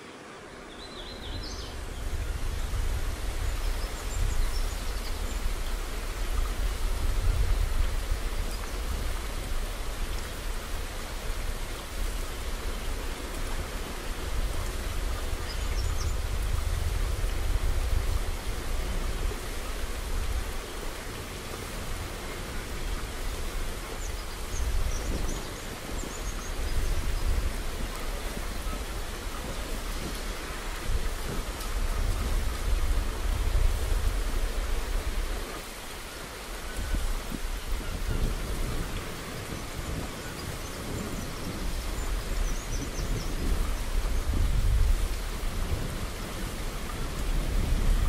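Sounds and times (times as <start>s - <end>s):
wind buffeting microphone: 0.9s - 48.0s.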